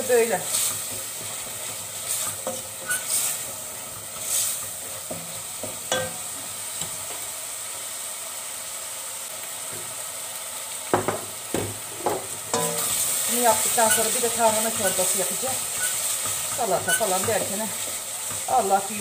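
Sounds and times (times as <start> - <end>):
vegetables sizzling in pot: 0.0 - 19.0.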